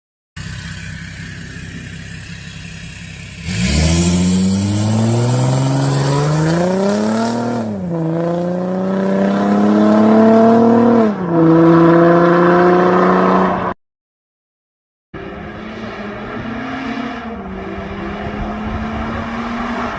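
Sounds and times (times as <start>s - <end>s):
car engine accelerating: 0.4s - 13.8s, 15.2s - 19.9s.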